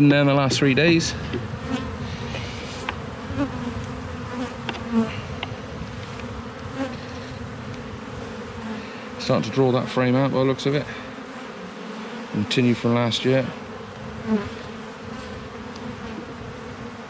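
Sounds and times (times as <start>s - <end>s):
bee colony humming: 0.0s - 17.0s
single bee droning past: 0.1s - 17.0s.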